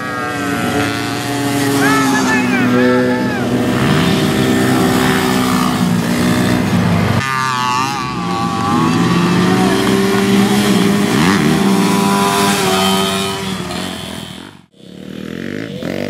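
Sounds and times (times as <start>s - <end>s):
small atv engines revving: 0.0s - 16.0s.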